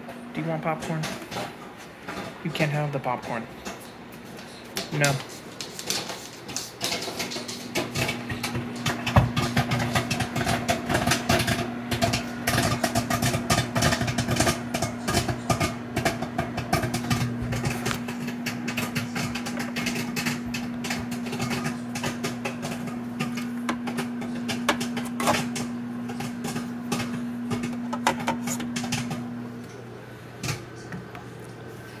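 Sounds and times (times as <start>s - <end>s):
microwave oven humming: 0.0s - 32.0s
popcorn popping: 0.3s - 32.0s.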